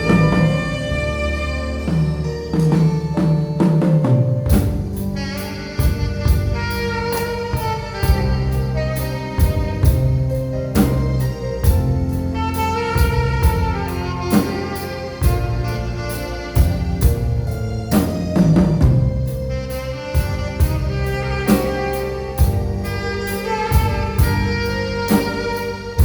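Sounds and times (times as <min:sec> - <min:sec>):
alto saxophone melody: 0:00.0 - 0:26.0
drum kit steady beat: 0:00.0 - 0:26.0
keyboard: 0:00.0 - 0:26.0.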